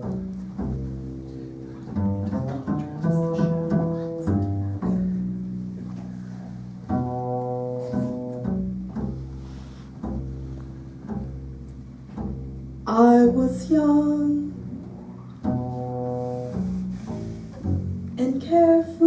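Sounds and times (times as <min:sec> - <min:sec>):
double bass notes: 0:00.0 - 0:19.0.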